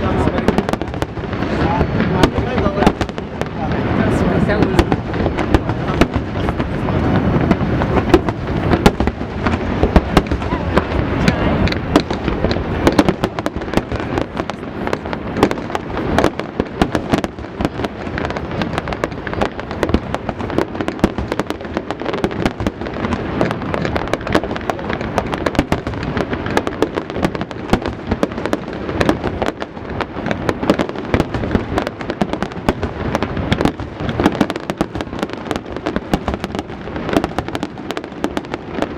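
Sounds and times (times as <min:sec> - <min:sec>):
fireworks crackling and booming: 0:00.0 - 0:38.9.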